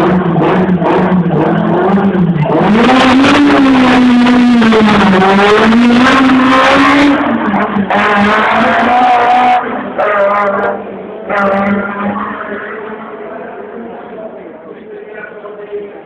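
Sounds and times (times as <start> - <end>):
rally car engine revving: 0.0 - 14.9.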